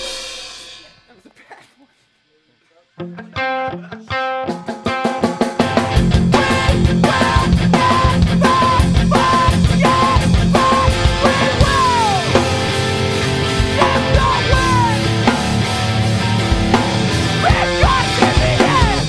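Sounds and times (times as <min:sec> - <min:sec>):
punk rock band playing: 0:00.0 - 0:01.1, 0:03.0 - 0:19.0.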